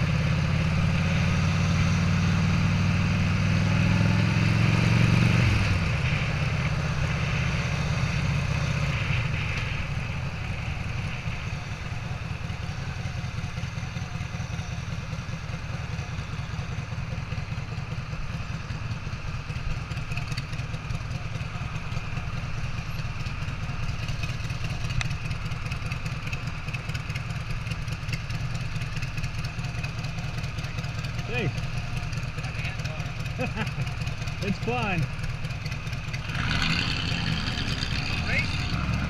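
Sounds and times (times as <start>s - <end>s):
motorcycle engine idling: 0.0s - 4.7s, 5.7s - 39.0s.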